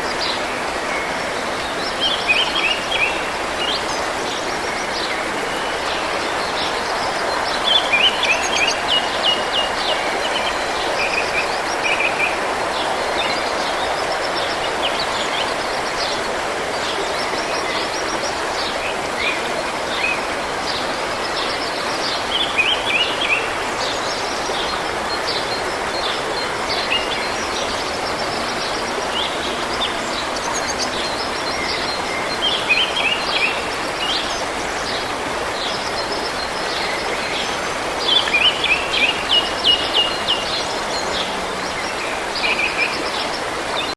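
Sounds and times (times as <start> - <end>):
stream running: 0.0 - 43.9.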